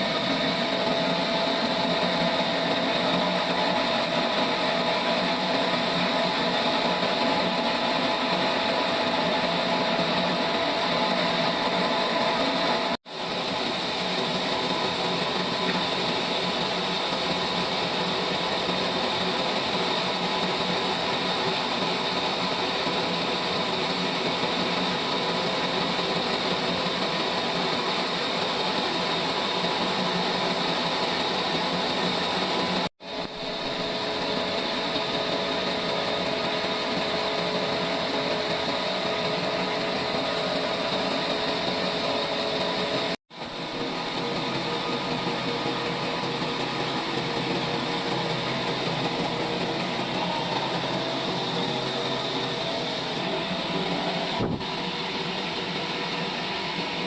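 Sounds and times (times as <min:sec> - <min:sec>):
sawmill saw running: 0:00.0 - 0:57.0.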